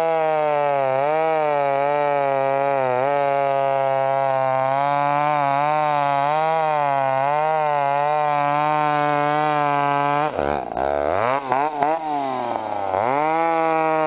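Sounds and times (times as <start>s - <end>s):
chainsaw running: 0.0s - 14.0s.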